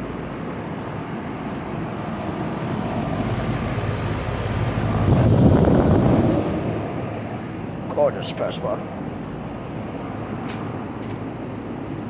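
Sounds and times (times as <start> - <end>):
air conditioning units humming: 0.0 - 12.0.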